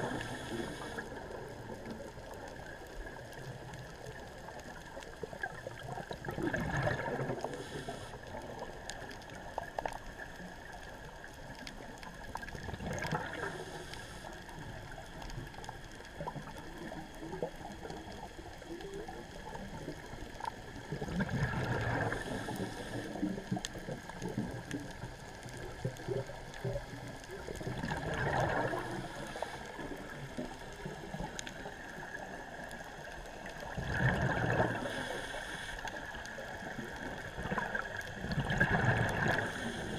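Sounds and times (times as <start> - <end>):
exhaled bubbles gurgling: 0.0 - 39.9
faint clicks: 0.0 - 39.9
steady underwater hiss: 0.0 - 39.9.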